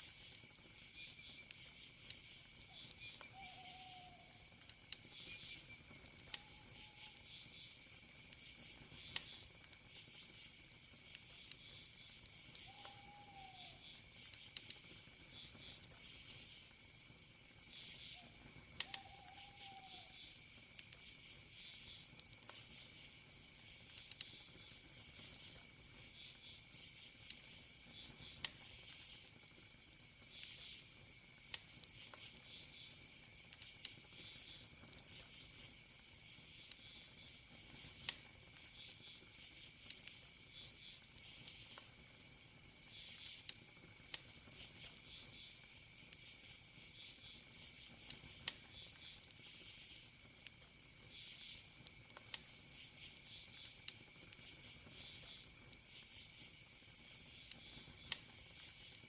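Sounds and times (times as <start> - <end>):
campfire crackling: 0.0 - 59.0
crickets trilling: 0.0 - 59.0.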